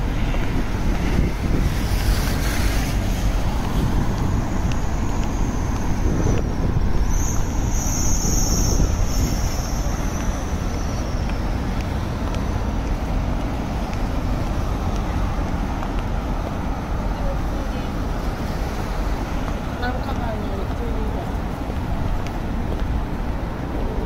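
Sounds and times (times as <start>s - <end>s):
street traffic with cars passing: 0.0s - 24.0s.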